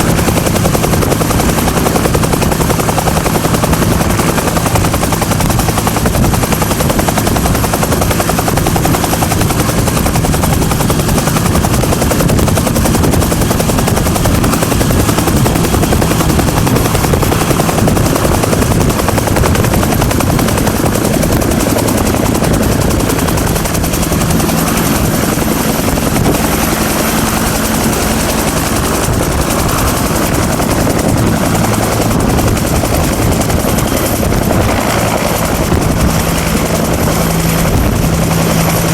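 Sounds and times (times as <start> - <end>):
helicopter rotor beating: 0.0 - 38.9
turbine engine whine: 0.0 - 38.9.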